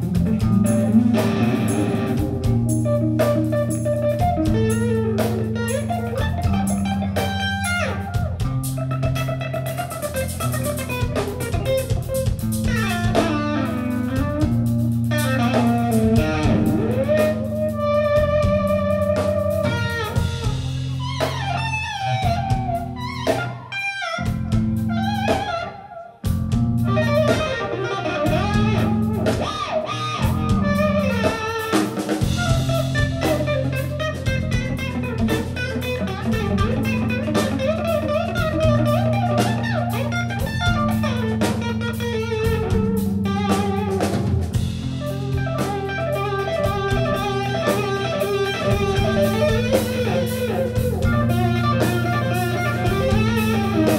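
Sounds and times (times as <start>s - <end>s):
lead guitar bending: 0.0s - 53.9s
metal band playing: 0.0s - 53.9s.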